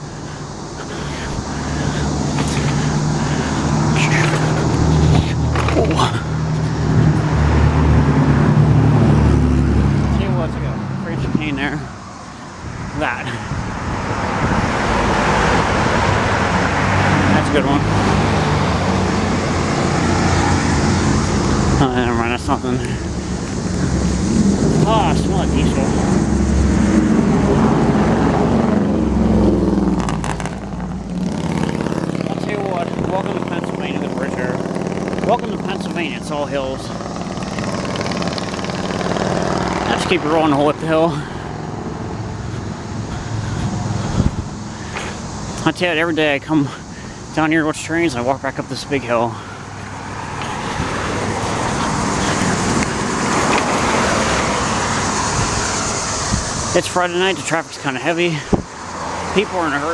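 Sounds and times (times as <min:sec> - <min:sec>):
diesel engine droning: 0:00.0 - 0:59.9
road traffic passing: 0:00.0 - 0:59.9.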